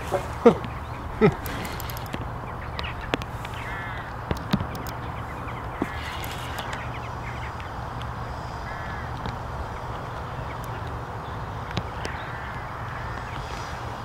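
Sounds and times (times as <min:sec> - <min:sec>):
harsh bird calls: 0:00.0 - 0:14.0
low wind rumble on microphone: 0:00.0 - 0:14.0.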